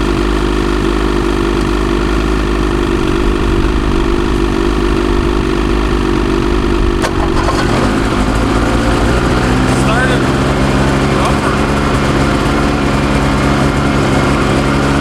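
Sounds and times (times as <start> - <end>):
second snowmobile starting: 0.0 - 15.0
snowmobile engine fast idle: 0.0 - 15.0.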